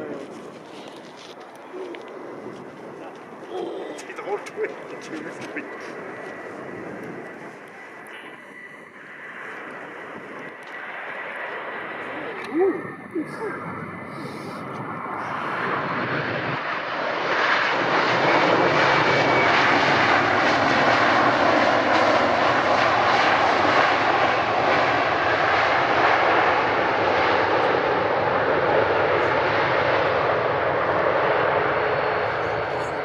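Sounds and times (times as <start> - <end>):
airliner engines passing: 0.0 - 33.0.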